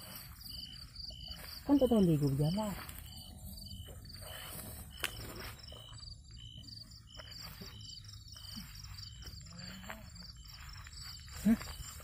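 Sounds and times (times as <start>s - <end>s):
high pulsed insect trill: 0.0s - 12.0s.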